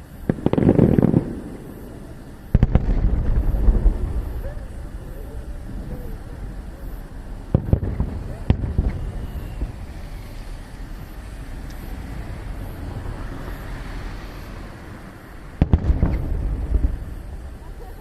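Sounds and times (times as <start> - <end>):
fireworks bangs: 0.0 - 13.5, 15.4 - 18.0.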